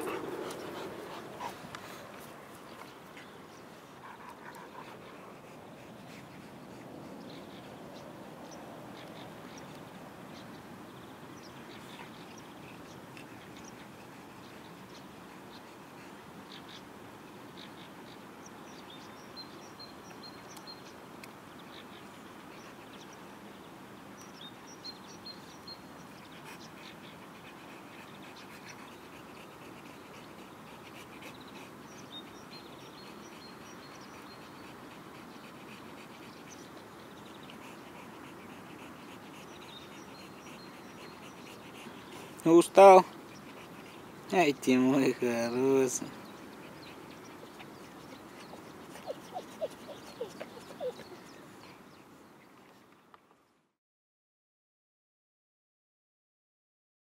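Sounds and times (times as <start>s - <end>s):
small birds chirping: 0.0s - 53.6s
steady outdoor hiss: 0.0s - 53.7s.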